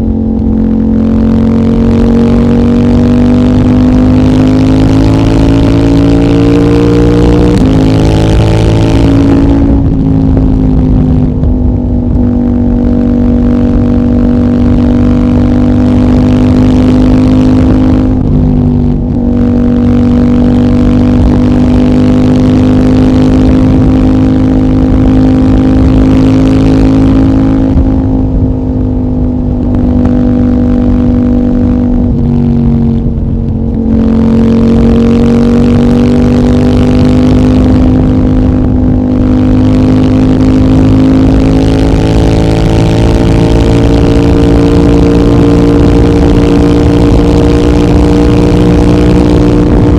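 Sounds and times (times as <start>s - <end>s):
motorcycle engine running under load: 0.0s - 49.9s.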